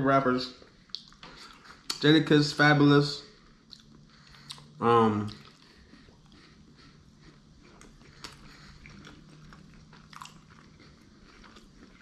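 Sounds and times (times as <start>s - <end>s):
person chewing food: 0.7s - 2.0s, 3.4s - 12.0s.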